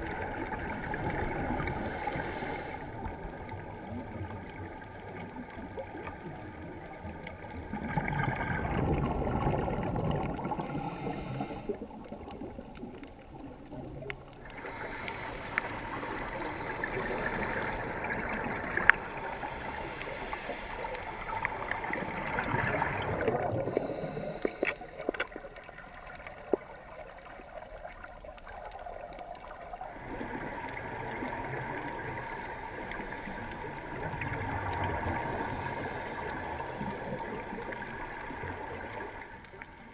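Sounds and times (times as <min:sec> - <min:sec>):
scuba bubbles gurgling: 0:00.0 - 0:39.9
underwater water noise: 0:00.0 - 0:39.9.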